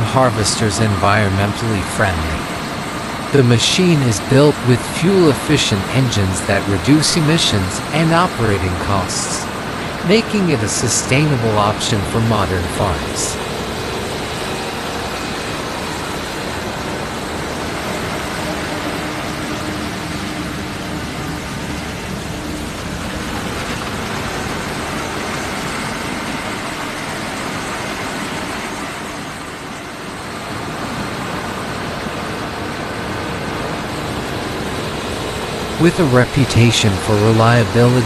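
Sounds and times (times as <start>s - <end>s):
harvesting machinery running: 0.0s - 38.0s.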